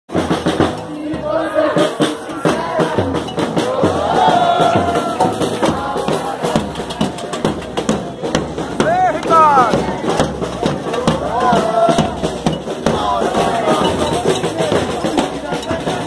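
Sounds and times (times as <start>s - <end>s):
crowd singing along: 0.1s - 16.0s
drums beating: 0.1s - 16.0s
street band playing: 0.1s - 16.0s.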